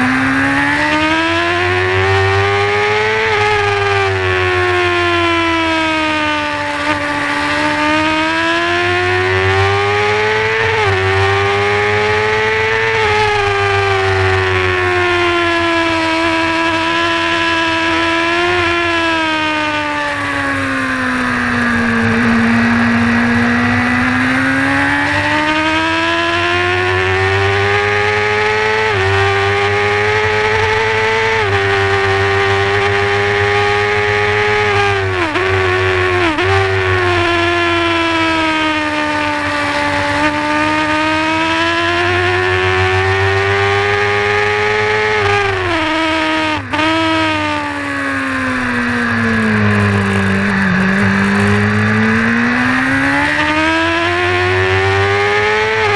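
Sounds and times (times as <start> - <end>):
gear changes: 0.0 - 55.9
motorcycle engine at high revs: 0.0 - 55.9.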